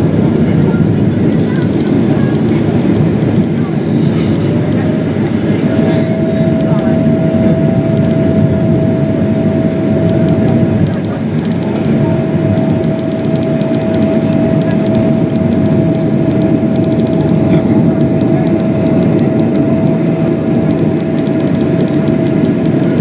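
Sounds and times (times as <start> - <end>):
airflow and engine rush: 0.0 - 23.0
steady whine: 0.0 - 23.0.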